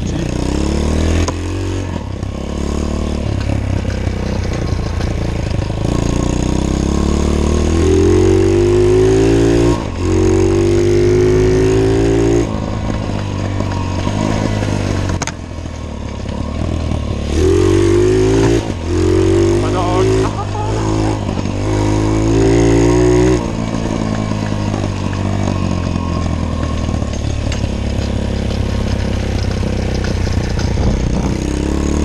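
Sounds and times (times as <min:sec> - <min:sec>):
motorbike engine revving: 0:00.0 - 0:32.0.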